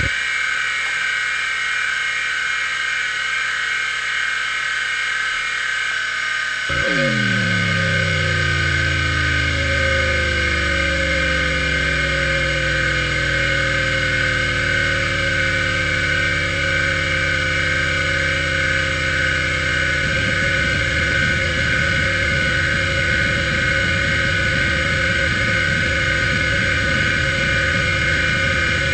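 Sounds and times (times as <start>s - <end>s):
hard drive high whine: 0.0s - 28.9s
hard drive seeking buzz: 0.0s - 28.9s.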